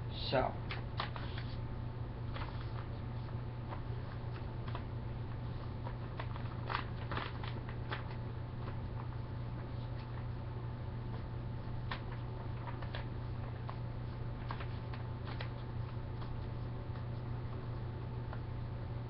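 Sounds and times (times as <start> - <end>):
steady low hum: 0.0 - 19.0
paper crinkling and rustling: 0.7 - 1.6, 2.3 - 10.4, 11.1 - 18.4.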